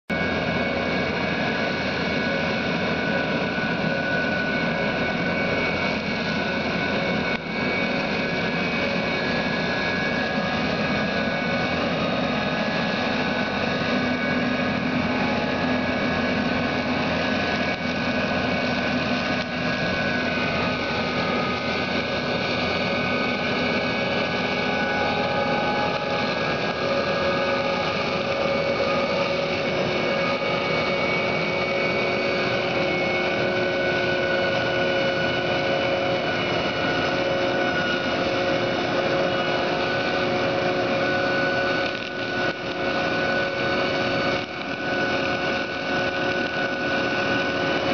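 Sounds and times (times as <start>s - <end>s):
flail mower whining: 0.1s - 47.9s
tractor engine: 0.1s - 47.9s.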